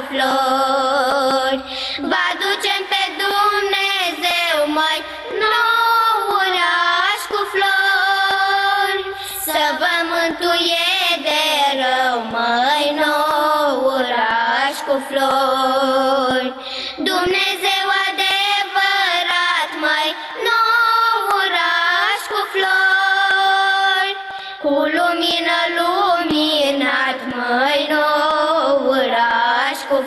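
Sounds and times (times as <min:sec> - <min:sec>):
girls singing together: 0:00.0 - 0:30.0.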